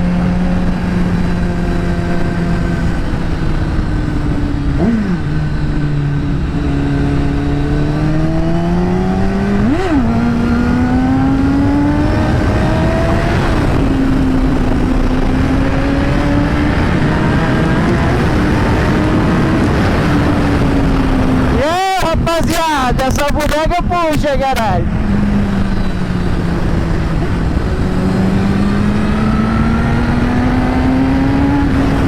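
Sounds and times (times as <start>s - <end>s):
motorcycle engine revving: 0.0s - 22.2s, 24.8s - 32.0s
wind and road rush: 0.0s - 32.0s.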